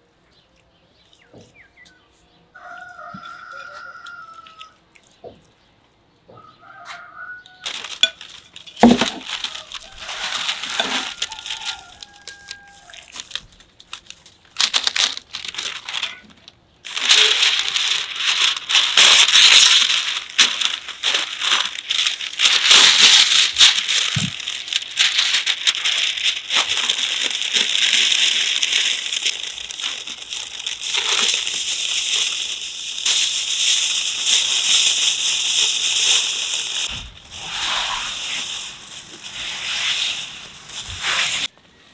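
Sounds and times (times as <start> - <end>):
baking paper and foil crinkling: 7.4 - 41.6.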